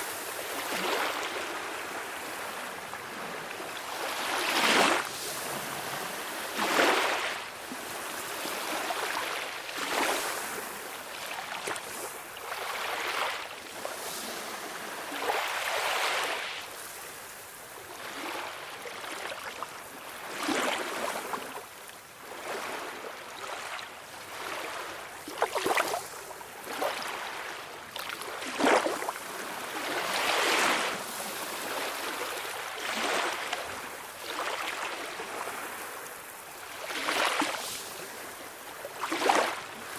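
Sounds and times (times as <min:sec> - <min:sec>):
small waves splashing on shore: 0:00.0 - 0:39.9.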